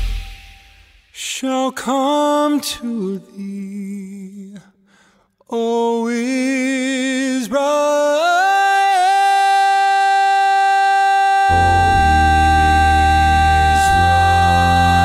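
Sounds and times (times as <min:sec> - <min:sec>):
solo voice singing unaccompanied: 0:01.2 - 0:04.7, 0:05.5 - 0:15.0.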